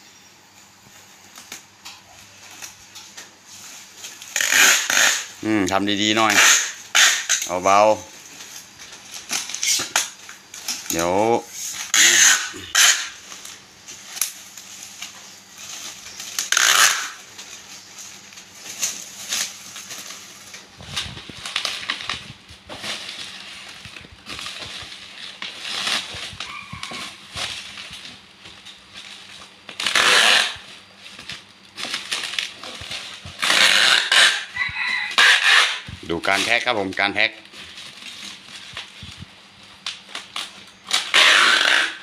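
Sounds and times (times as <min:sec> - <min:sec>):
bubble wrap crinkling: 0:00.9 - 0:42.0
packing tape rasping off dispenser: 0:01.3 - 0:42.0.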